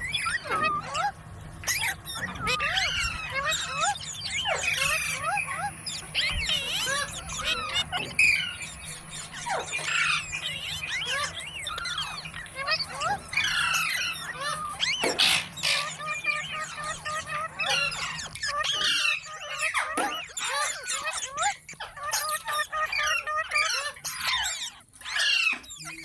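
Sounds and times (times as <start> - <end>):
parrot chattering and squawking: 0.0 - 26.0.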